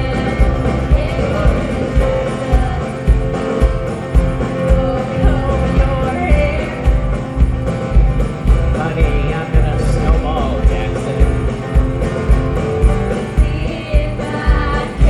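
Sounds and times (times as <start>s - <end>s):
kick drum beat: 0.0s - 15.0s
live rock band playing: 0.0s - 15.0s.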